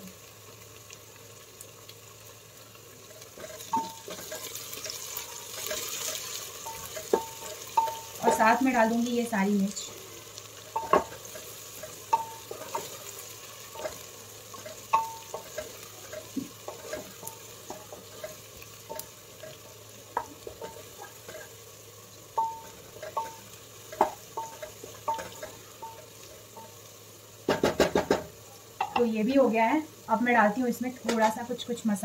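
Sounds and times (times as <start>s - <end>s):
faint sizzle: 0.0s - 32.0s.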